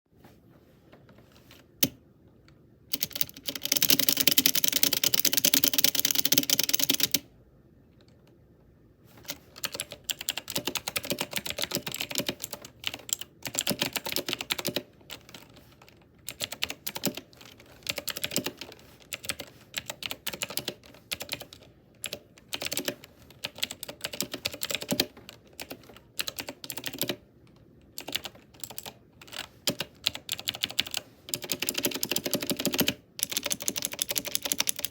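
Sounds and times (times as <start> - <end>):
mechanical keyboard typing: 2.9 - 7.2, 9.2 - 34.9.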